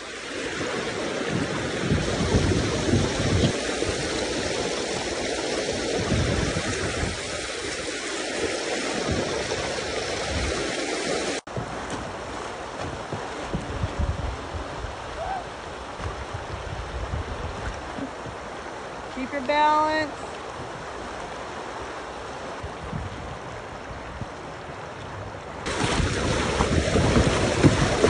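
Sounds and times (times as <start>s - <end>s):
river water rushing through rapids: 0.0s - 28.0s
wind buffeting on microphone: 0.4s - 10.9s, 11.5s - 19.0s, 22.4s - 28.0s.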